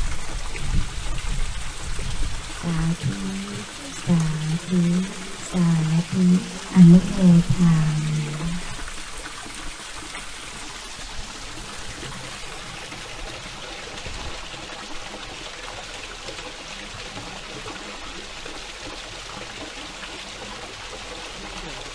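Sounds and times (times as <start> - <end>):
running water rushing: 0.0 - 21.9.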